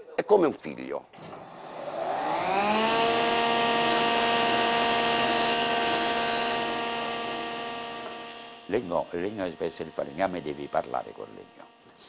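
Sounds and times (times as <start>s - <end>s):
electric motor whine spinning up: 1.3s - 12.0s.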